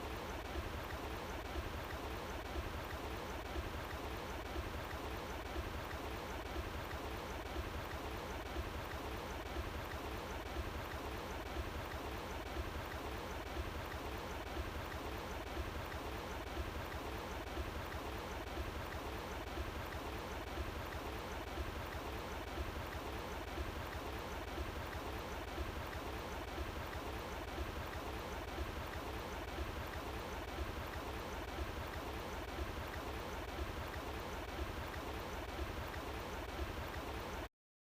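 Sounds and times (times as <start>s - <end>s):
running water rushing: 0.0s - 37.5s.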